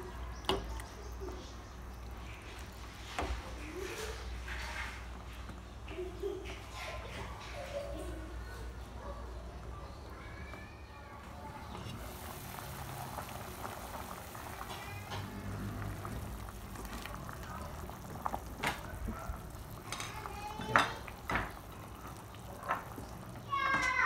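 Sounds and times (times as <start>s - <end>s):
soup bubbling in a pot: 0.0s - 5.6s, 9.4s - 24.0s.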